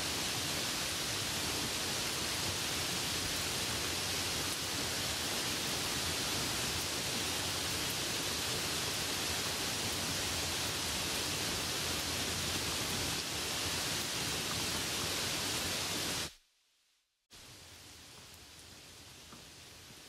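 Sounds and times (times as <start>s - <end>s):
light rain hiss: 0.0s - 16.7s, 17.3s - 20.0s.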